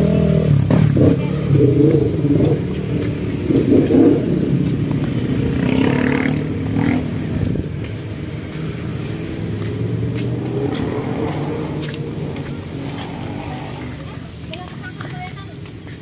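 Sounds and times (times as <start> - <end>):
motorcycle engines running: 0.0 - 16.0
motorcycle revving and passing: 0.0 - 16.0.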